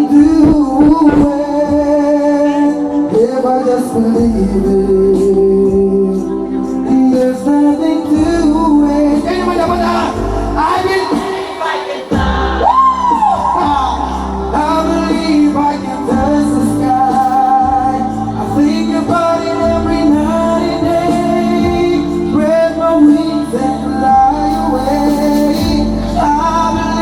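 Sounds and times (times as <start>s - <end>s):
backing music: 0.0s - 27.0s
person singing pop ballad: 0.0s - 27.0s.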